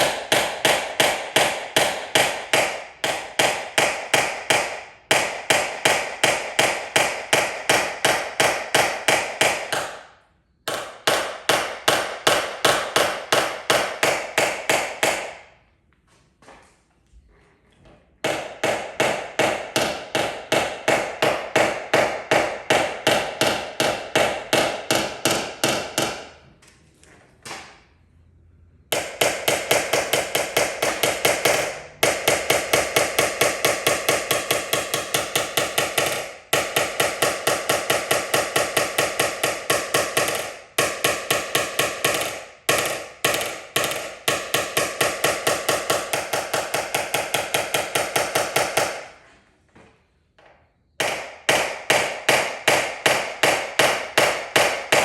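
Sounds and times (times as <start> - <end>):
hammer tapping sheet metal: 0.0 - 15.7, 18.2 - 26.5, 28.9 - 49.3, 50.4 - 55.0.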